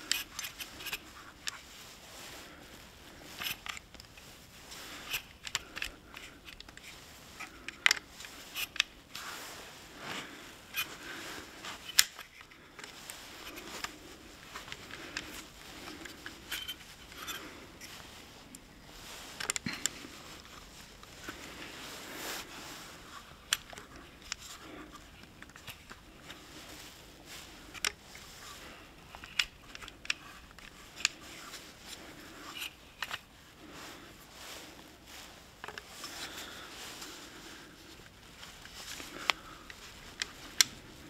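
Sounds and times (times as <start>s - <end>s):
low rustle of handling: 0.0s - 41.0s.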